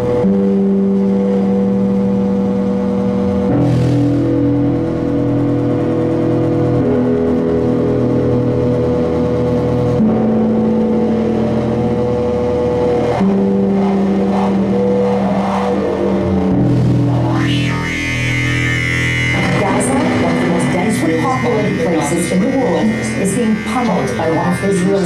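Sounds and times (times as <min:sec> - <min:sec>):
electronic drone music: 0:00.0 - 0:25.0.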